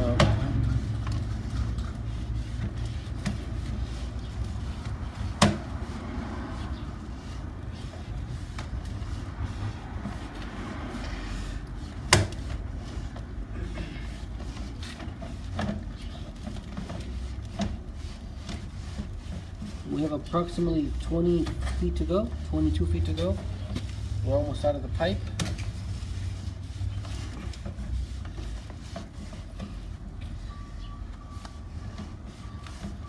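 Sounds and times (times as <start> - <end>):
vehicle rumble: 0.0 - 33.0.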